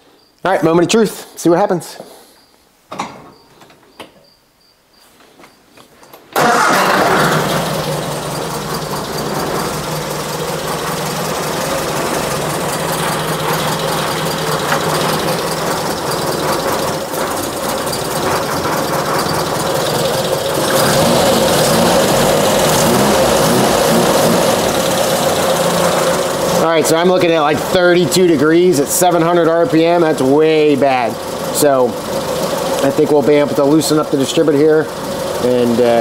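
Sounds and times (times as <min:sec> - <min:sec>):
car engine starting and idling: 0:06.3 - 0:36.0.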